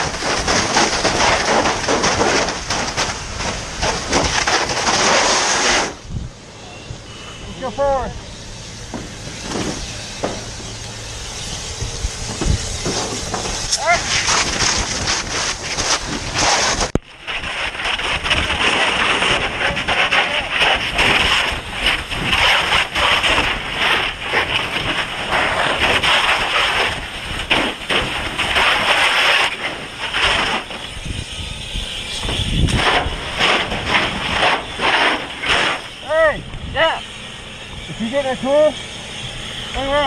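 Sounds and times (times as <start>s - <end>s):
fire hose spraying water: 0.0s - 40.0s.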